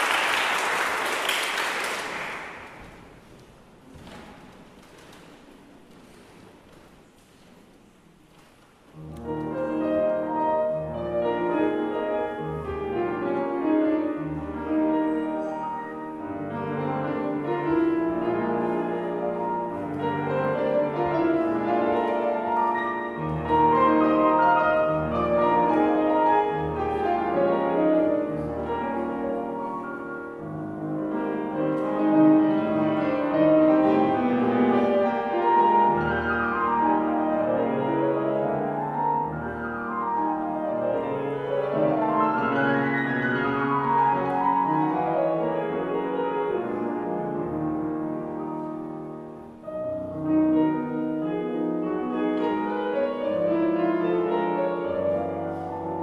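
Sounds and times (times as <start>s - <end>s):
solo piano playing: 9.0s - 56.0s.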